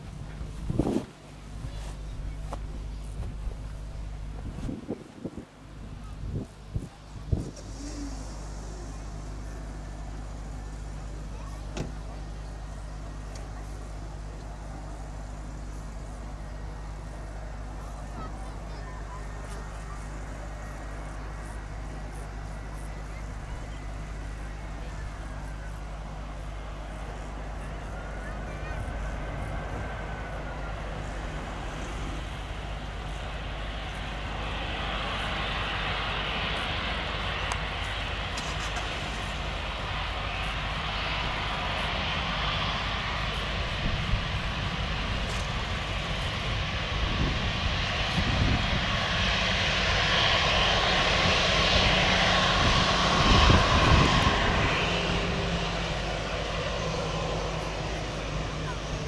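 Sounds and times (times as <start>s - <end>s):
jet airliner engines rushing: 0.0s - 59.0s.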